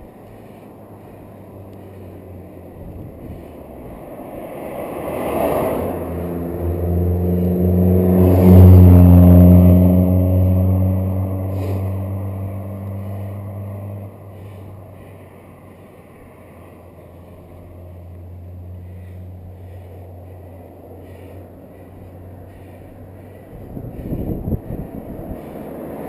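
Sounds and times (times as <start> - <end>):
motor vehicle passing: 0.0 - 26.0.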